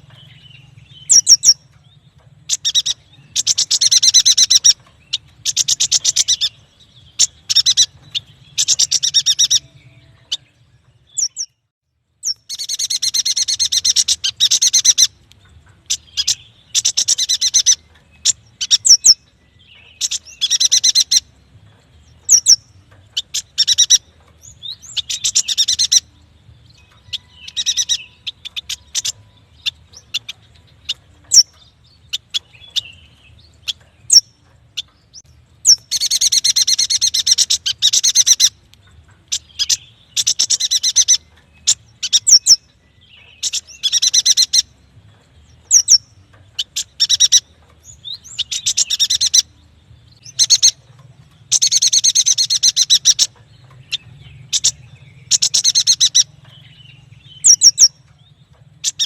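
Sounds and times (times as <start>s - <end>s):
bird chattering trills: 0.0s - 10.5s, 12.2s - 21.3s, 22.2s - 26.2s, 26.9s - 38.6s, 39.2s - 44.8s, 45.6s - 49.6s, 50.2s - 50.8s, 51.4s - 59.0s.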